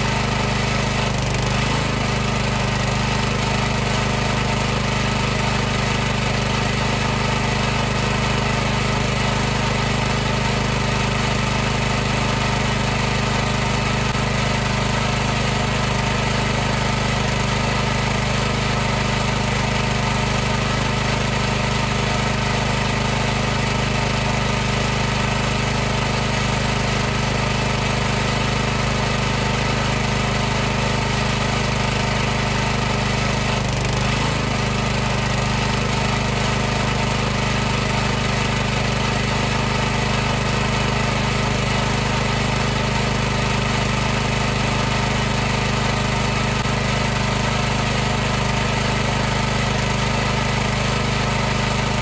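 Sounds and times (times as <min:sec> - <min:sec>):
pressure washer pump humming: 0:00.0 - 0:52.0.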